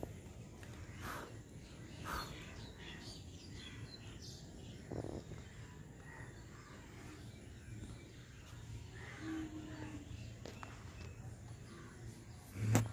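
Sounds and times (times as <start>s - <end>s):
faint bird chirps and calls: 0.0s - 12.9s
low steady background noise: 0.0s - 12.9s.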